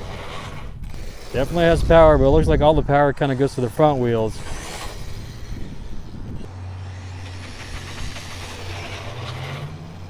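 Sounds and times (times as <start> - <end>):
rc car motor humming: 0.0 - 10.0.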